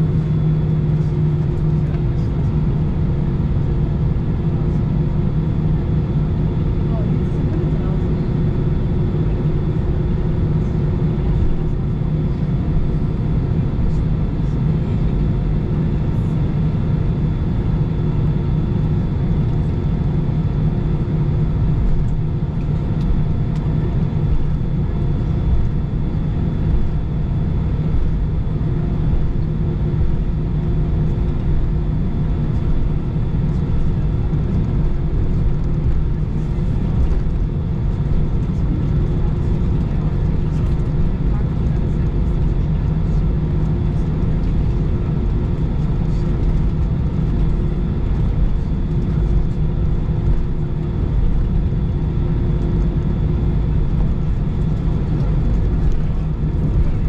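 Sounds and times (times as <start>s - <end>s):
aircraft engine rumble: 0.0s - 57.0s.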